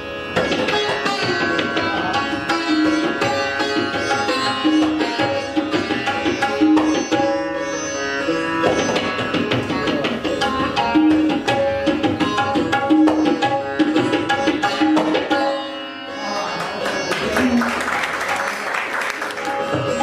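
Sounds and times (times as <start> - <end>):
tabla drumming: 0.0 - 15.8, 16.6 - 20.0
plucked sitar melody: 0.0 - 20.0.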